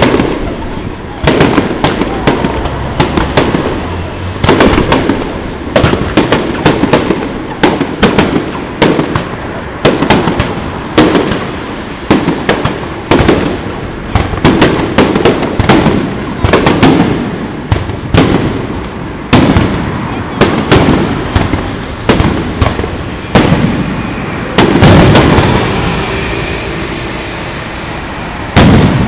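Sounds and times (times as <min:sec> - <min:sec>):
fireworks bursting with sharp bangs: 0:00.0 - 0:29.0.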